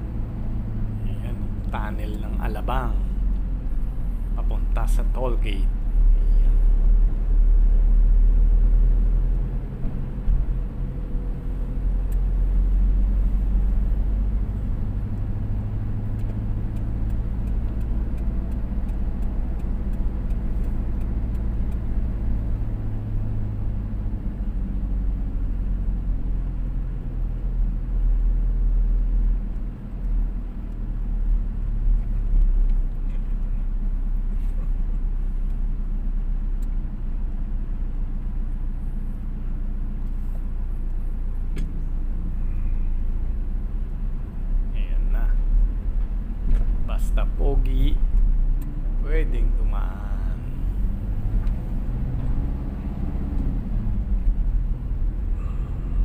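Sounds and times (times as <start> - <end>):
car engine hum: 0.0 - 56.0.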